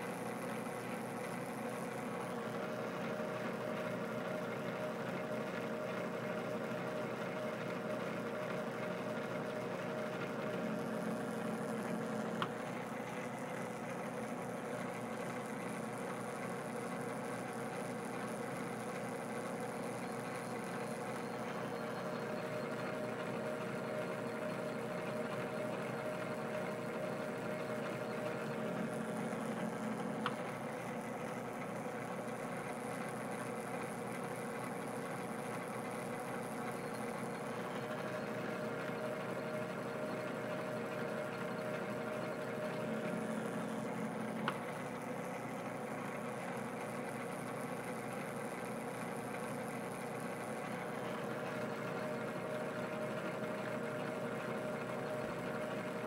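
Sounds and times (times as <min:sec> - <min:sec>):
metal lathe humming: 0:00.0 - 0:56.0.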